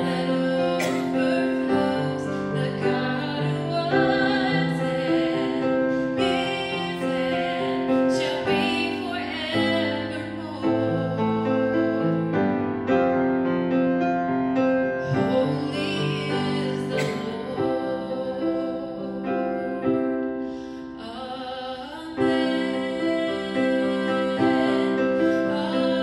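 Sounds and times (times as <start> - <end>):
woman singing: 0.0 - 12.6, 15.0 - 26.0
grand piano: 0.0 - 26.0.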